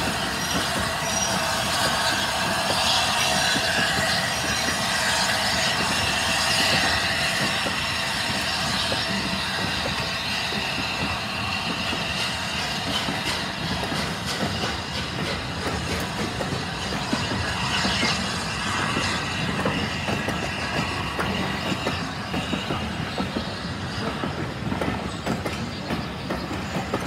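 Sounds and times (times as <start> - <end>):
high wheel squeal: 0.0 - 27.0
train coaches rumbling past: 0.0 - 27.0.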